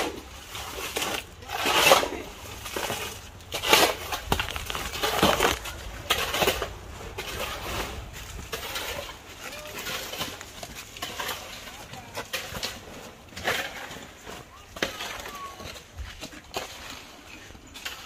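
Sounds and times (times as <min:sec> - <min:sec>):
shovels scraping wet concrete: 0:00.0 - 0:18.0.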